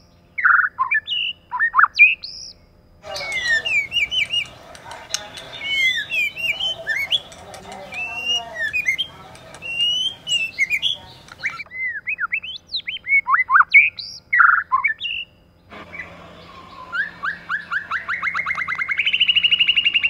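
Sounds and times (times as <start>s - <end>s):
bird singing whistled phrases: 0.3s - 20.0s.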